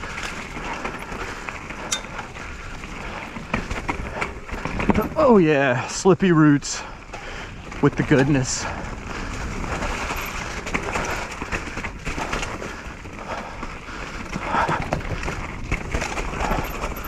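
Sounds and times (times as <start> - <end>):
bike knocks and rattles: 0.0 - 5.4, 7.7 - 17.0
bike tyres rolling over dirt: 0.0 - 17.0.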